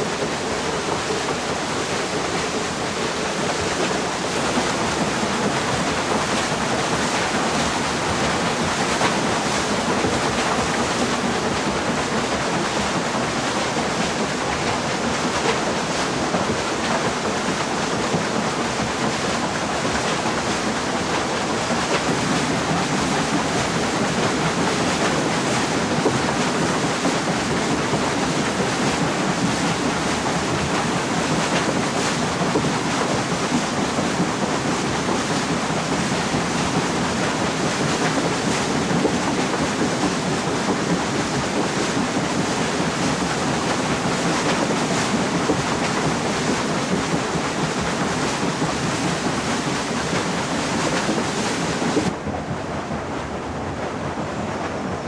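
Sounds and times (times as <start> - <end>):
water rushing over waterwheel: 0.0 - 55.0.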